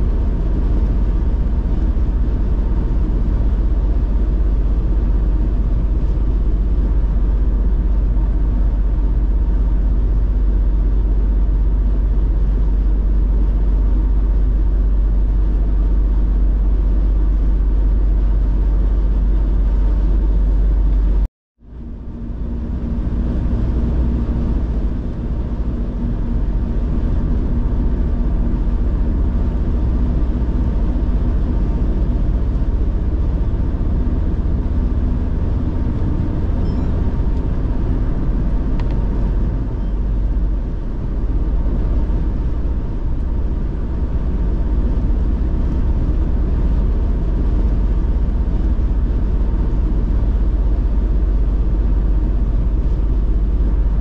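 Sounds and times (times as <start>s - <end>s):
car engine and tyre road noise: 0.0s - 54.0s.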